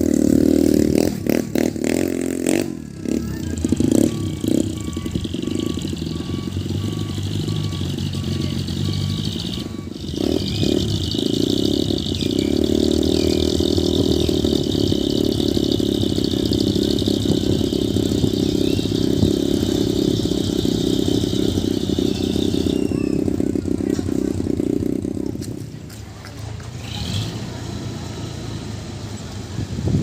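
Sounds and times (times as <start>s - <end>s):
truck engine under load: 0.0s - 30.0s.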